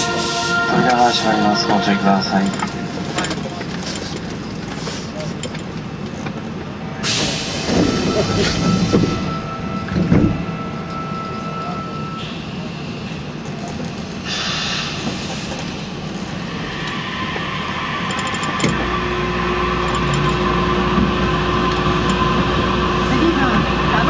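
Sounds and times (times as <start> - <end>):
subway train rumbling in tunnel: 0.0 - 24.0.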